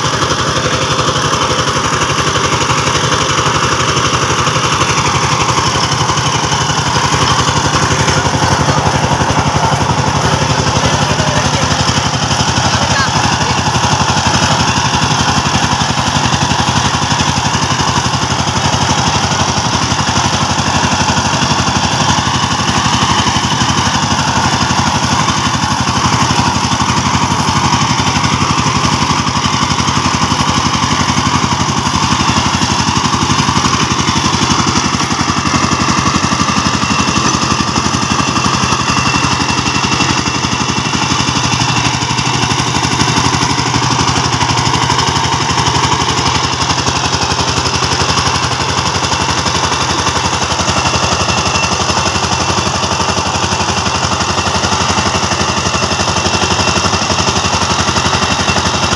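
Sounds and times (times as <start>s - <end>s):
diesel tiller engine running: 0.0s - 58.9s.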